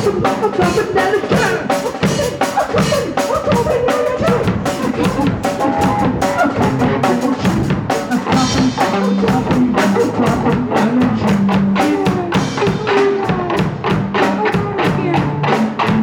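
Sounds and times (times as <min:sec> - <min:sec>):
drum kit fast beat: 0:00.0 - 0:16.0
punk rock band playing live: 0:00.0 - 0:16.0.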